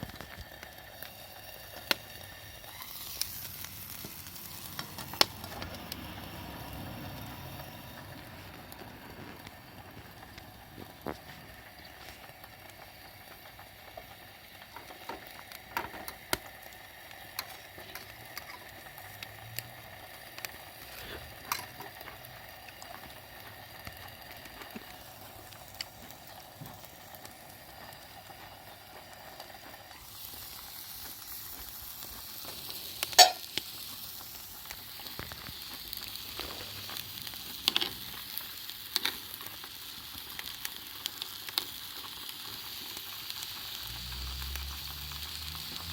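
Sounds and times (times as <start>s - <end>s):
campfire crackling and hissing: 0.0s - 45.9s
fire popping: 0.0s - 45.9s.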